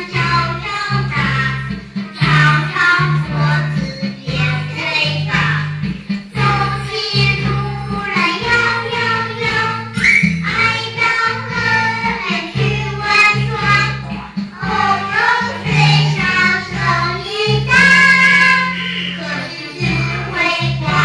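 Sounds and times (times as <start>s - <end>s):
children singing: 0.0s - 21.0s
musical accompaniment with bass: 0.0s - 21.0s.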